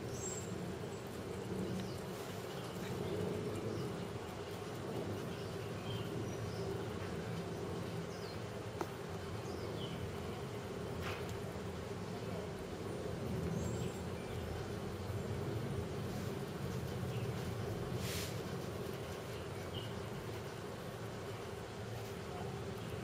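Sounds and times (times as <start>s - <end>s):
rabbit chewing leaves: 0.0s - 23.0s.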